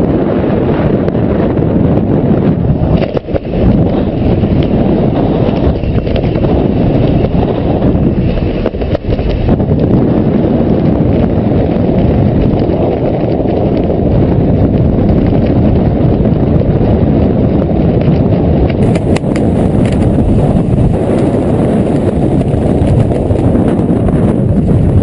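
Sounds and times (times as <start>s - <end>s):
wind buffeting a microphone: 0.0s - 25.0s.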